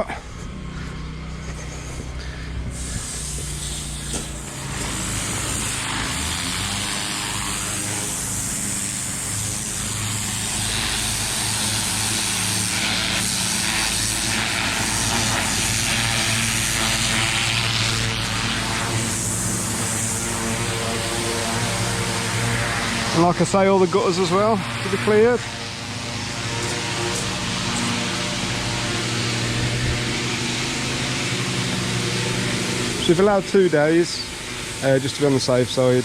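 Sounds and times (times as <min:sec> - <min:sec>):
pressure washer machine hum: 0:00.0 - 0:36.0
high-pressure water jet hissing: 0:01.4 - 0:36.0.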